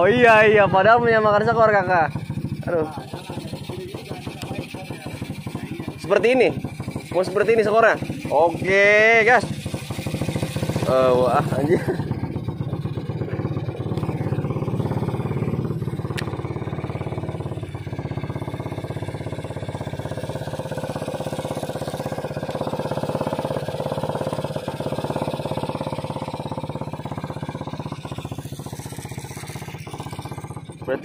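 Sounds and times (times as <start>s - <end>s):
small boat engine droning: 0.0s - 31.0s.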